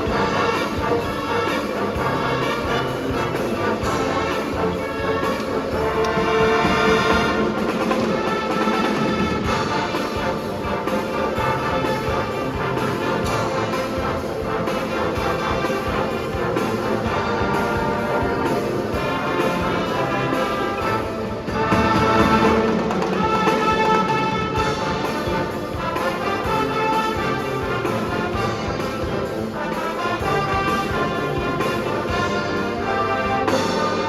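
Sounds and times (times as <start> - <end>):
marching band brass chords: 0.0 - 34.0
marching band percussion: 0.0 - 34.0.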